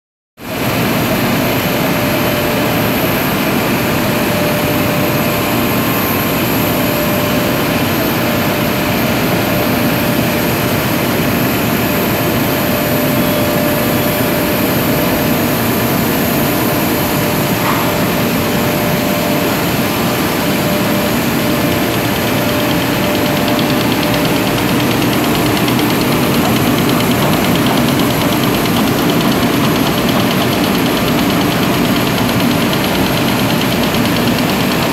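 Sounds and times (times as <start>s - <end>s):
machine motor droning: 3.8s - 34.9s.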